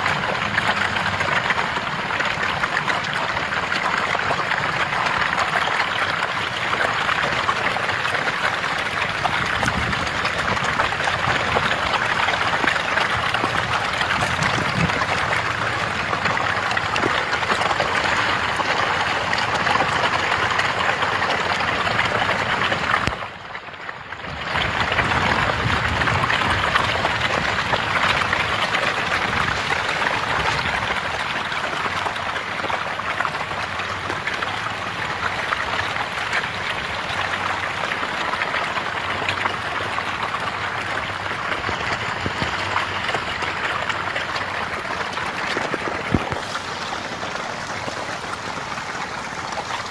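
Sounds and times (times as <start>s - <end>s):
fish thrashing and splashing water: 0.0s - 23.5s, 24.2s - 49.9s.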